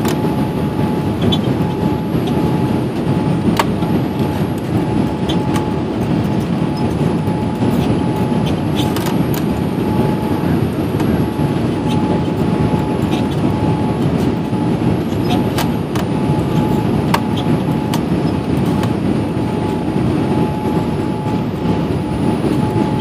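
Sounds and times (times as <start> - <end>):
airliner rolling with engines running: 0.0 - 23.0.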